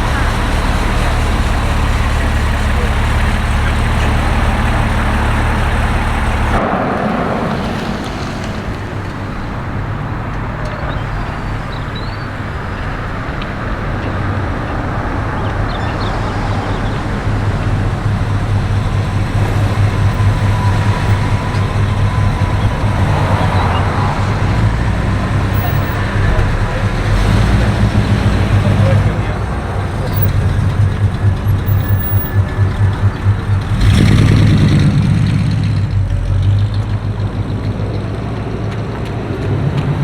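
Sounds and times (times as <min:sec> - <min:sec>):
car engine rumbling: 0:00.0 - 0:40.0
traffic noise: 0:00.0 - 0:40.0.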